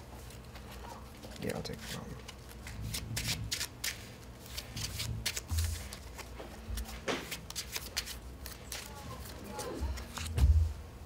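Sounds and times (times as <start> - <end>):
cards being shuffled: 0.1 - 10.6.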